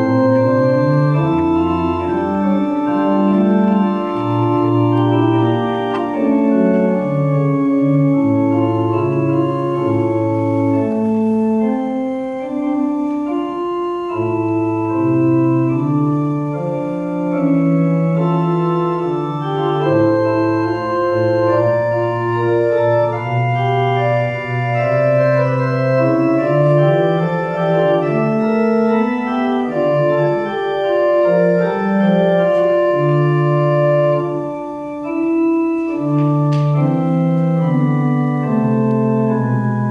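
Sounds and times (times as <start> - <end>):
church organ playing chords: 0.0 - 39.9.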